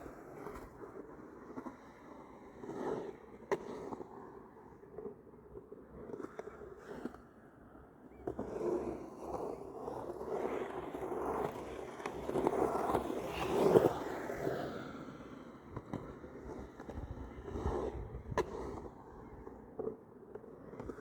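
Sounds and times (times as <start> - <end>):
skateboard rolling and scraping: 0.0 - 21.0.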